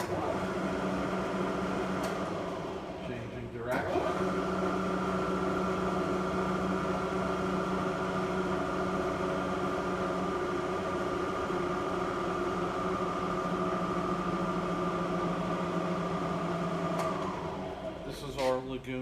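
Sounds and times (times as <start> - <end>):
milling machine motor hum: 0.0 - 19.0.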